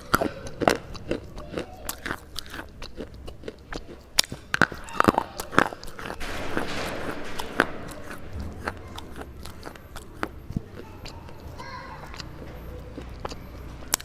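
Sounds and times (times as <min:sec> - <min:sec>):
crunching between teeth: 0:00.0 - 0:14.0.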